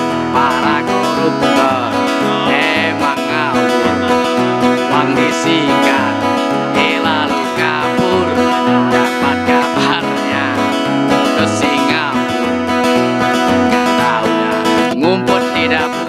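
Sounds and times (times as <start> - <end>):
acoustic guitar strumming: 0.0 - 16.0
mandolin melody: 0.0 - 16.0.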